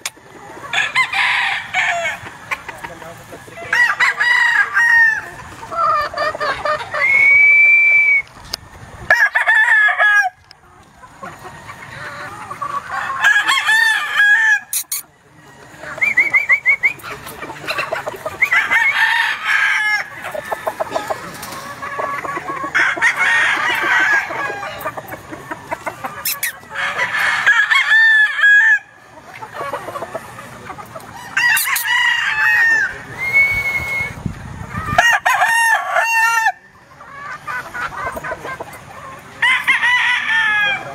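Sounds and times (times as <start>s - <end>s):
roosters crowing: 0.0s - 8.2s, 9.0s - 40.9s
chickens clucking: 0.0s - 40.9s.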